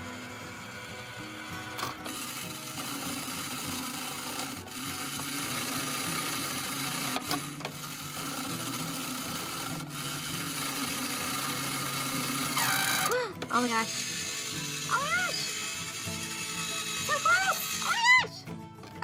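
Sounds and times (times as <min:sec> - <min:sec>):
claw machine motors whirring: 0:00.0 - 0:19.0.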